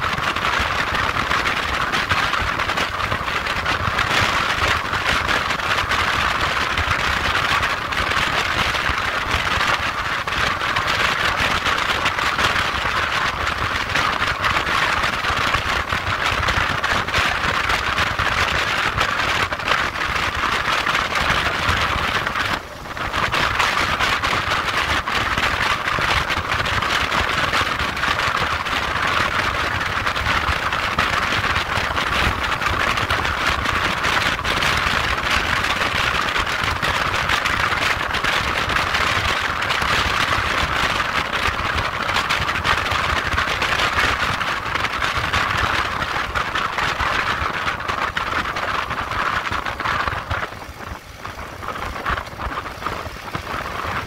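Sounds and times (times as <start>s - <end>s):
wind rush over microphone: 0.0s - 54.0s.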